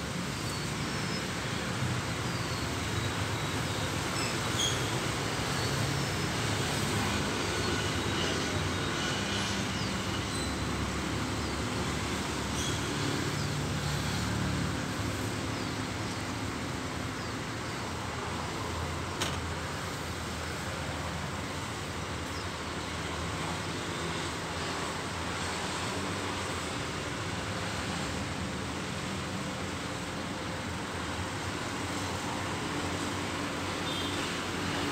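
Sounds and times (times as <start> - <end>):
distant traffic rumble and hiss: 0.0 - 34.9.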